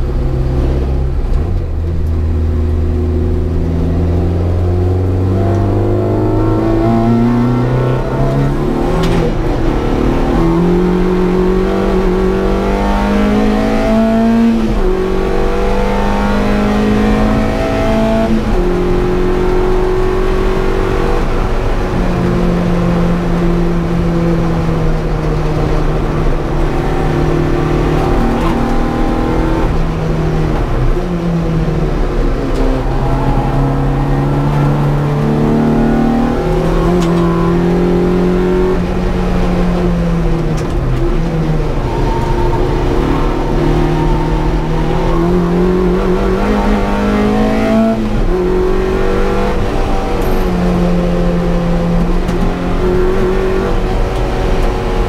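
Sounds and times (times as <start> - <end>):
car engine revving high: 2.3 - 55.0.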